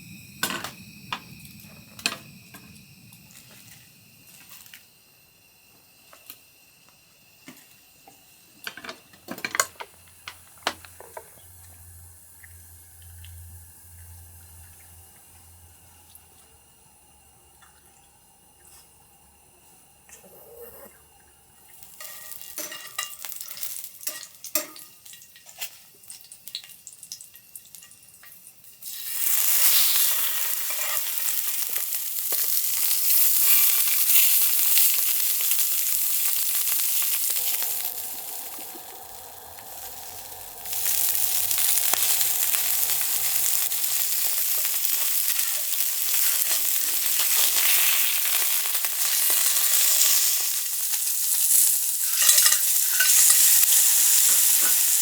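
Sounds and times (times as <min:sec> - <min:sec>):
food sizzling in a pan: 0:00.0 - 0:17.5, 0:21.6 - 0:55.0.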